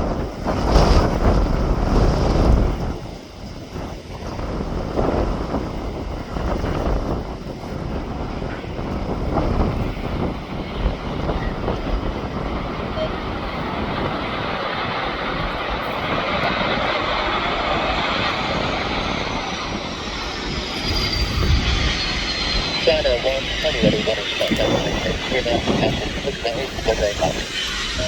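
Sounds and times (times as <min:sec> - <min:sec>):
airliner engines roaring: 0:00.0 - 0:28.0
wind buffeting microphone: 0:00.0 - 0:28.0
high whine gliding down: 0:05.2 - 0:28.0.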